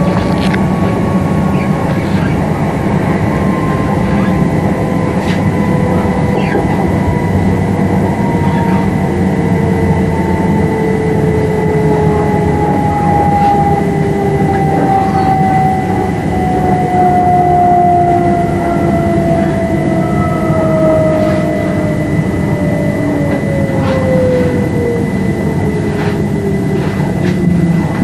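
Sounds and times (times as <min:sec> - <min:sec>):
traction motor whine: 0:00.0 - 0:28.0
train wheels rumbling on rail: 0:00.0 - 0:28.0.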